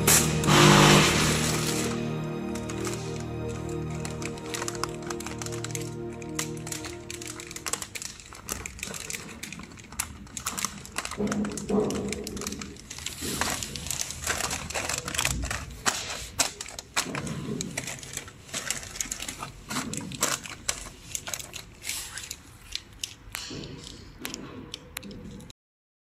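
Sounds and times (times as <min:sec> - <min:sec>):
plastic snack bags crackling: 0:00.0 - 0:25.4.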